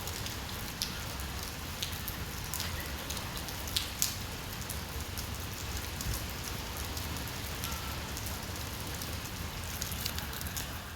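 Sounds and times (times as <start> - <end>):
rain on hard surfaces: 0.0 - 10.9.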